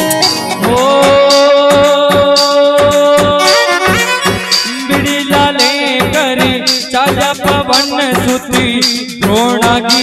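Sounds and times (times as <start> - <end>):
hand drum beat: 0.0 - 10.0
keyboard: 0.0 - 10.0
person singing: 0.0 - 10.0.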